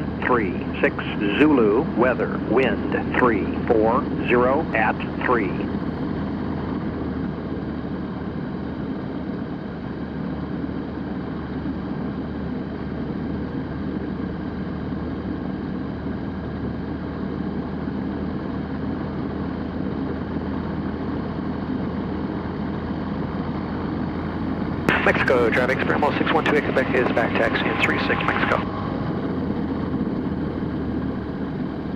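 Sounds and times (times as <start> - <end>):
light aircraft engine and propeller: 0.0 - 31.9.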